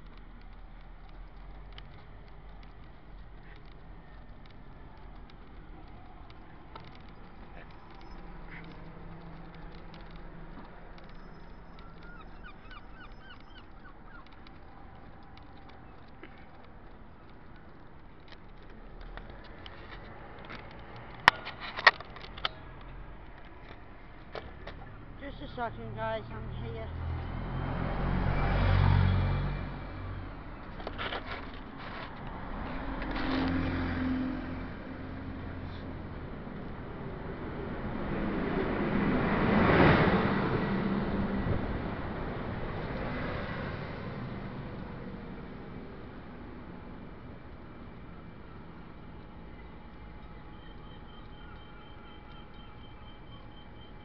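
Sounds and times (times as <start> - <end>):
street background hum: 0.0 - 54.0
vehicles passing: 0.0 - 54.0.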